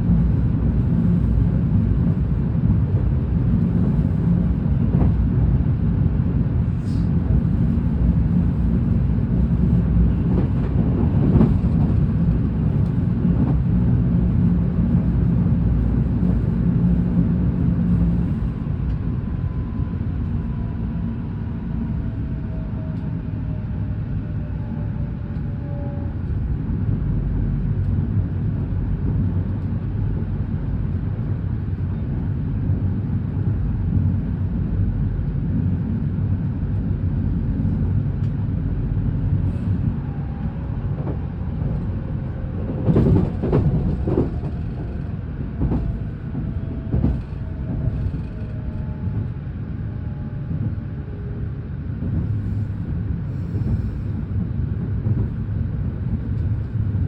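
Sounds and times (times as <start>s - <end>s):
train carriage rumbling on rails: 0.0s - 57.0s.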